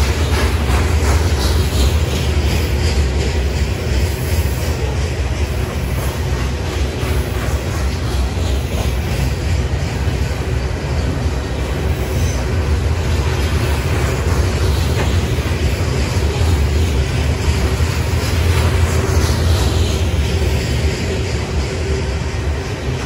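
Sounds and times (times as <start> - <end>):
freight train rumbling past: 0.0 - 23.0
wheels rattling on rail: 0.0 - 23.0.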